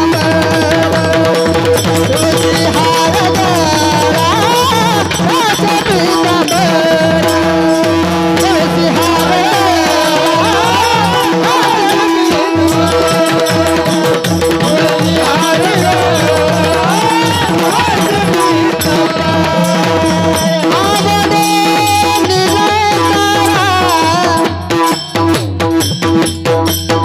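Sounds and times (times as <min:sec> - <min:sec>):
high voice singing long melodic lines: 0:00.0 - 0:25.0
drum keeping rhythm: 0:00.0 - 0:27.0.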